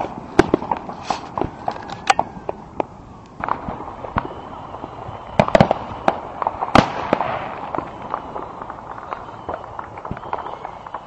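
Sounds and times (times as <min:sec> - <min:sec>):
fireworks bangs and pops: 0:00.0 - 0:11.0
fireworks crackling: 0:00.0 - 0:11.0.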